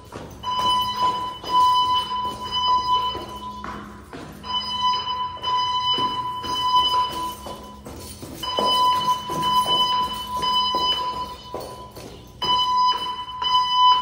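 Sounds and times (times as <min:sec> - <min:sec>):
fire alarm electronic tone: 0:00.0 - 0:14.0
footsteps going down stairs: 0:00.0 - 0:14.0.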